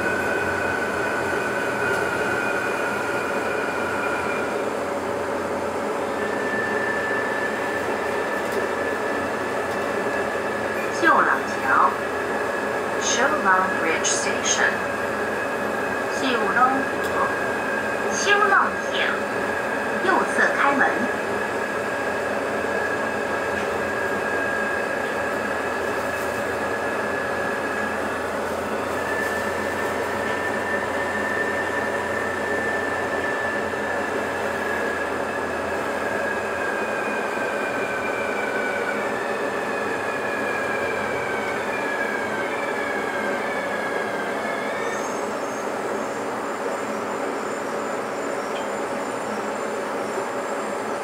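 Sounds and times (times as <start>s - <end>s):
metro train motor whine: 0.0s - 51.0s.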